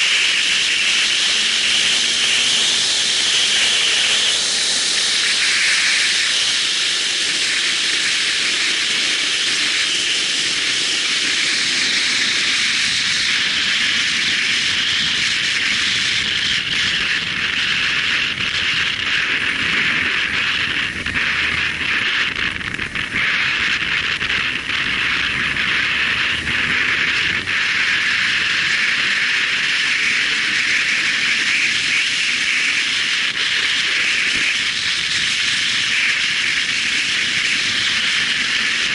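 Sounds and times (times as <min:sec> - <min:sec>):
faint motorcycle engine: 0:00.0 - 0:38.9
faint road noise: 0:00.0 - 0:38.9
wind buffeting microphone: 0:00.0 - 0:38.9.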